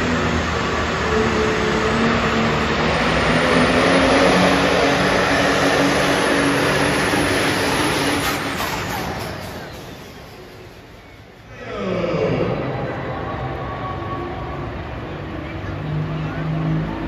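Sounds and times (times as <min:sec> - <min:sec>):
diesel truck engine at full throttle: 0:00.0 - 0:17.0.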